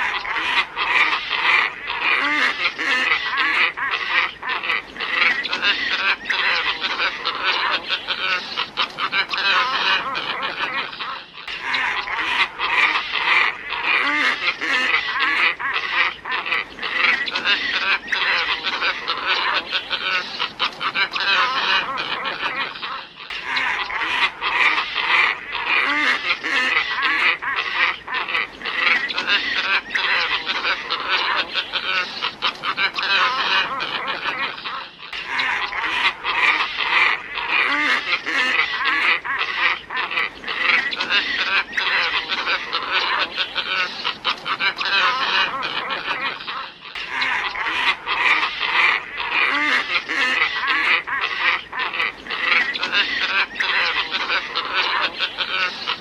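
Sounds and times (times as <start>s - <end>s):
ibis flock calling: 0.0s - 56.0s.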